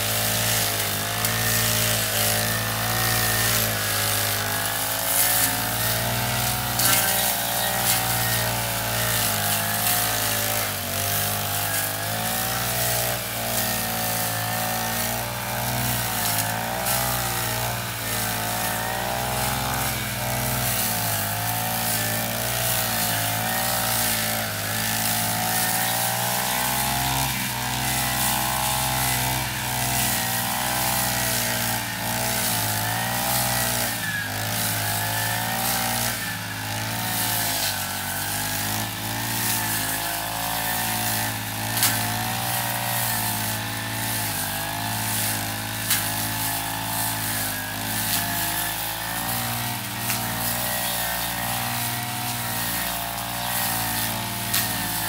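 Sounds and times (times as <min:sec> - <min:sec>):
brush cutter engine cutting grass: 0:00.0 - 0:55.0.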